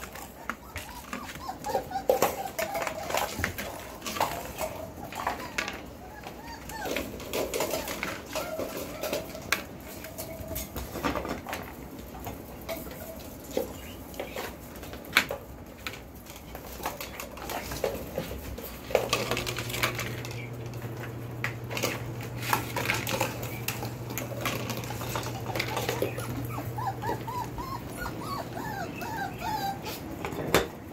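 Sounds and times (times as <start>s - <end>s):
toys and feeding pan clattering: 0.0s - 30.9s.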